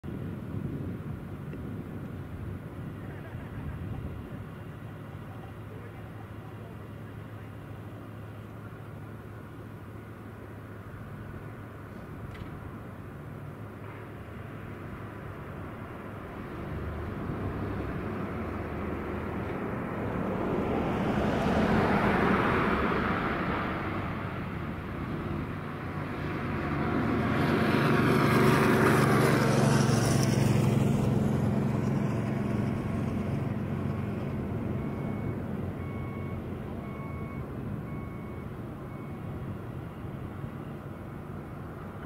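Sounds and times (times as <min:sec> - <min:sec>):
propeller plane engine droning: 0:00.0 - 0:42.0.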